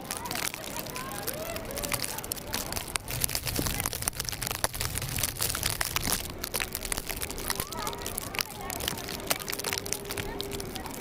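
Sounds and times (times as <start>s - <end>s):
faint distant voices: 0.0s - 11.0s
snow crunching under sleds and boots: 0.0s - 11.0s
low rumble: 1.6s - 11.0s.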